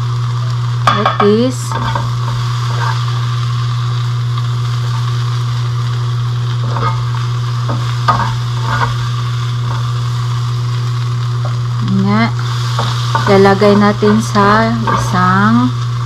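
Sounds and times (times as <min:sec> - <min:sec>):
low hum: 0:00.0 - 0:16.0
vegetables sizzling in a pan: 0:00.0 - 0:16.0.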